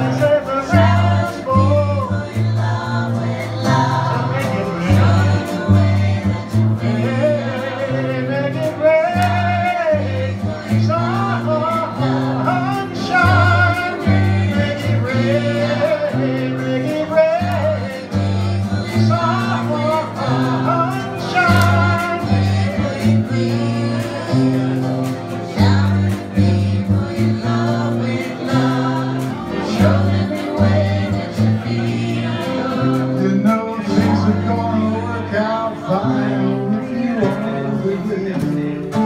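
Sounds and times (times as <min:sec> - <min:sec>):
bass line: 0:00.0 - 0:39.0
group singing: 0:00.0 - 0:39.0
strummed acoustic guitar: 0:00.0 - 0:39.0.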